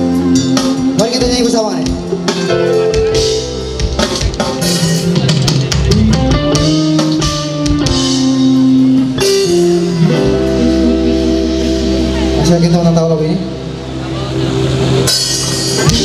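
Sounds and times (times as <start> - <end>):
drum kit: 0.0 - 13.0, 13.8 - 16.0
bass guitar: 0.0 - 16.0
electric guitars: 0.0 - 16.0
keyboard notes: 0.0 - 16.0.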